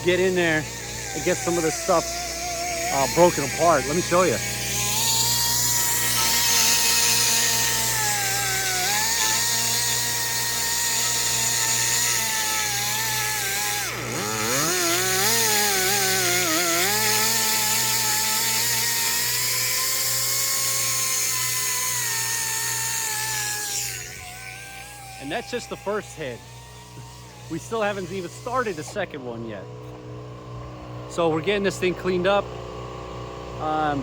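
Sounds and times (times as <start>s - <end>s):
air grinder whining: 0.0s - 34.0s.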